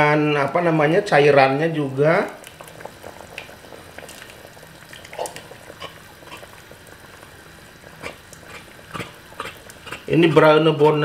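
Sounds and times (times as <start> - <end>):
broth bubbling: 0.0 - 11.0.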